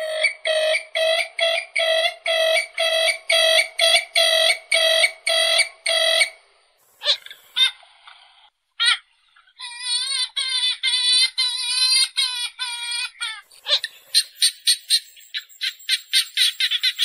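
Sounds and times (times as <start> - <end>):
bird calling repeated notes: 0.0 - 7.8, 9.6 - 17.0.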